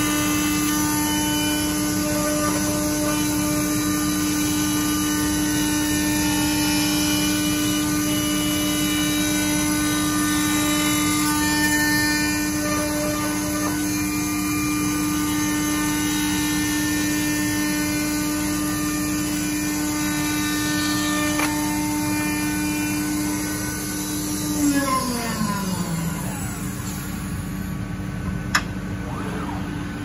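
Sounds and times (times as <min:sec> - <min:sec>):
wood cutting noise: 0:00.0 - 0:27.6
low machine hum: 0:00.0 - 0:30.0
router spindle whine: 0:00.0 - 0:30.0.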